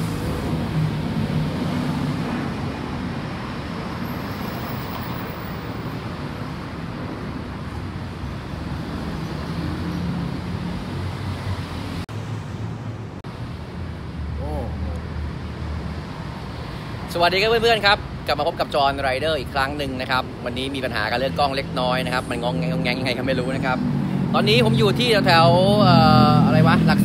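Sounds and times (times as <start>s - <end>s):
road traffic engine hum: 0.0s - 27.0s.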